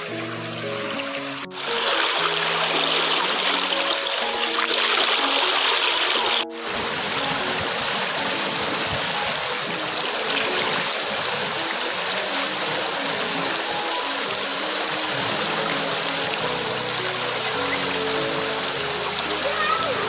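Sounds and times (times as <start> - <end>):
soft background music: 0.0 - 20.0
stream flowing over rocks: 0.0 - 20.0.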